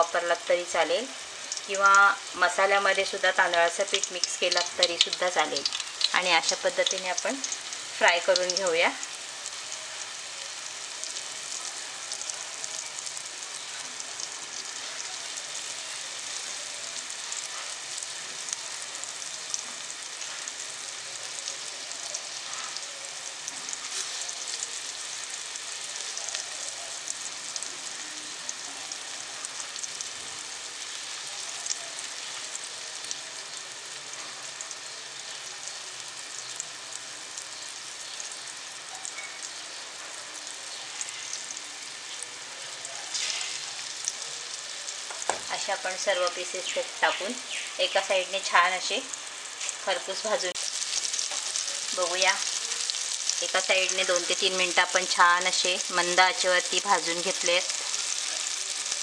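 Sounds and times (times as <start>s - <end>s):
oil sizzling and crackling in pan: 0.0s - 59.0s.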